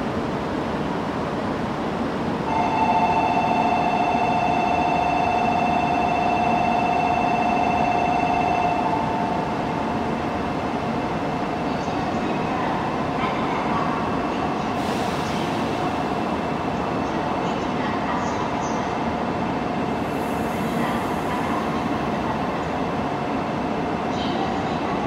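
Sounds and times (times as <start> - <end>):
train humming at platform: 0.0 - 25.0.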